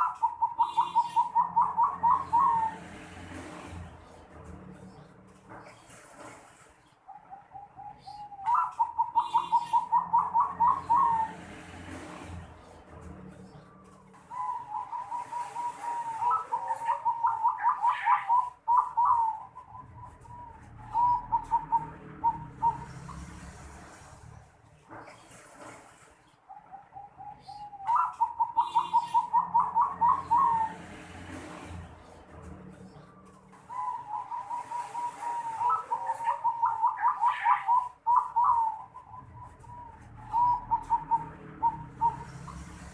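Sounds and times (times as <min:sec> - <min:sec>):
dove cooing: 0:00.0 - 0:04.0, 0:07.1 - 0:12.5, 0:13.8 - 0:24.0, 0:26.5 - 0:42.9.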